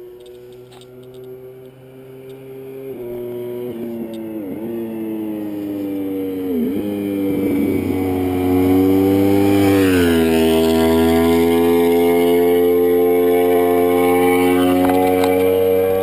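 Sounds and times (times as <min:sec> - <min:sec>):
motorcycle engine passing by: 0:00.0 - 0:16.0.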